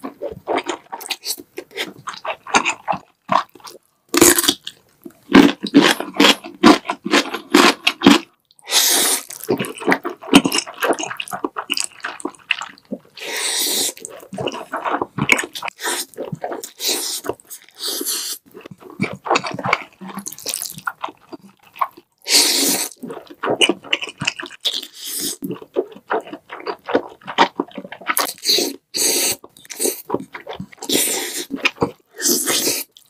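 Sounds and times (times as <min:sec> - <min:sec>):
chewing: 0:00.0 - 0:33.0
noodle slurping: 0:05.4 - 0:33.0.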